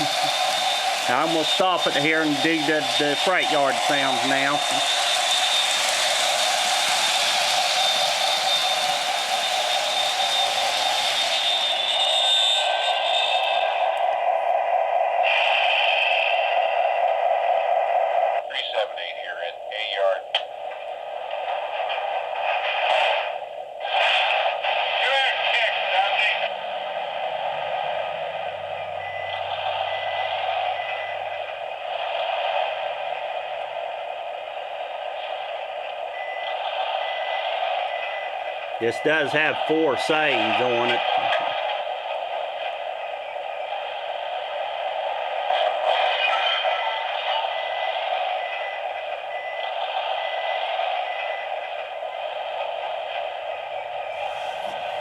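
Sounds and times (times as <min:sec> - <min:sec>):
radio static hiss: 0:00.0 - 0:55.0.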